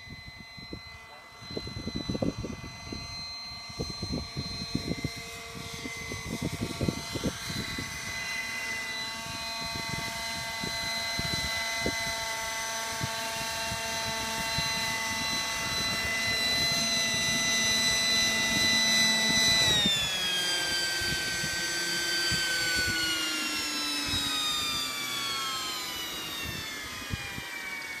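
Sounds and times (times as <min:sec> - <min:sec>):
model helicopter motors whining: 0:00.0 - 0:28.0.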